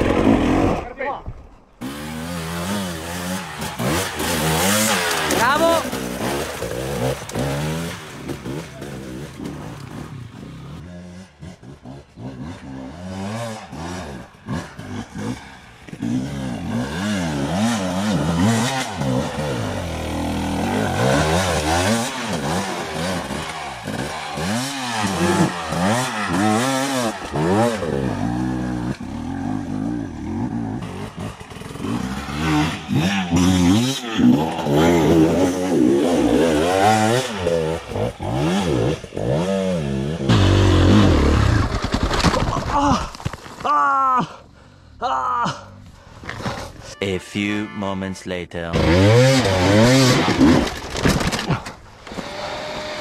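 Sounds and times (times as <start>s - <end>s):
dirt bike engine revving: 1.8s - 42.0s, 48.3s - 53.0s.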